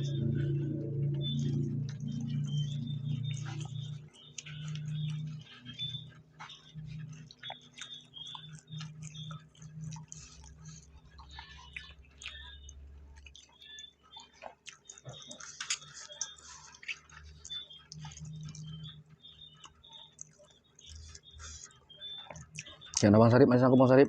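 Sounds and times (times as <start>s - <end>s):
person chewing wetly: 0.0s - 23.1s.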